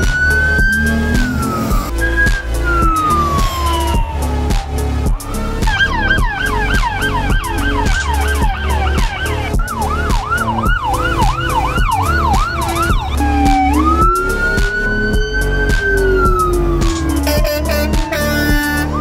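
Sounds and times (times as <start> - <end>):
background music with beat: 0.0 - 19.0
electronic siren yelp and wail: 0.0 - 19.0.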